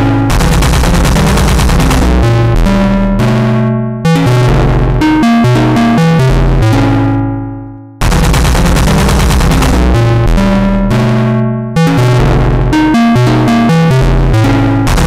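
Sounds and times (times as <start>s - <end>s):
heavy bass line: 0.0s - 15.0s
synthesizer chords: 0.0s - 15.0s.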